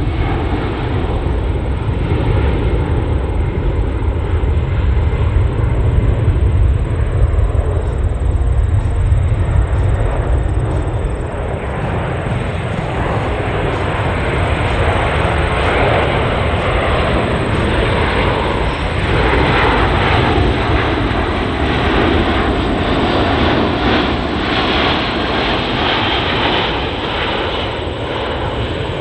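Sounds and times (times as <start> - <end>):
loud jet engine rumble: 0.0 - 29.0.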